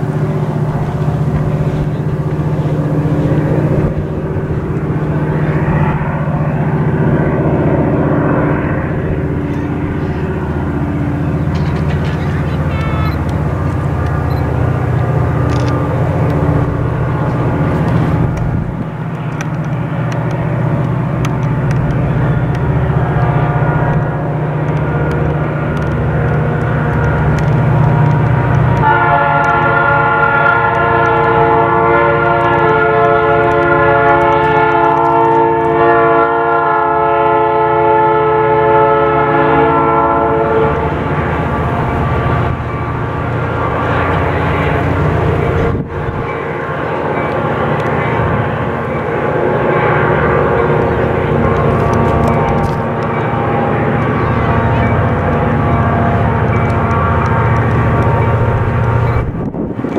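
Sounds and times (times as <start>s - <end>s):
diesel locomotive engine: 0.0s - 59.9s
locomotive horn: 0.0s - 59.9s.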